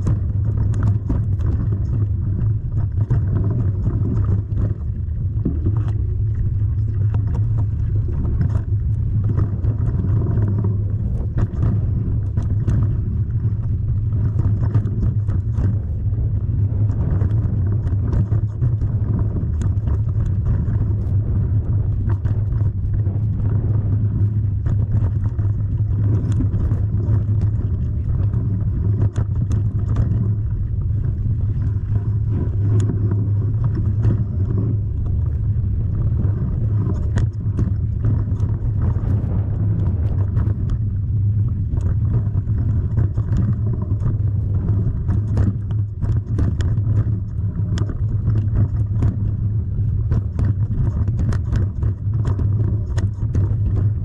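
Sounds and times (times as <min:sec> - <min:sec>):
vehicle rumbling on the move: 0:00.0 - 0:54.0.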